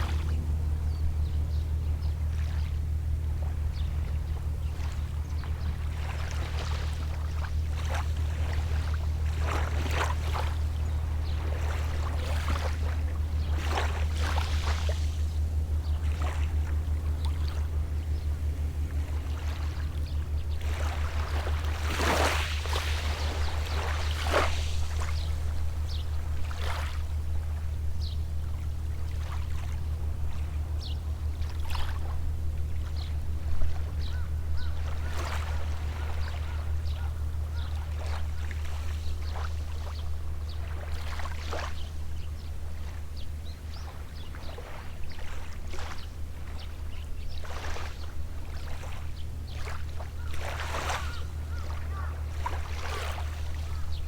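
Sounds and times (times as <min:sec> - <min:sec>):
distant boat engine drone: 0:00.0 - 0:54.0
small waves lapping on shore: 0:00.0 - 0:54.0.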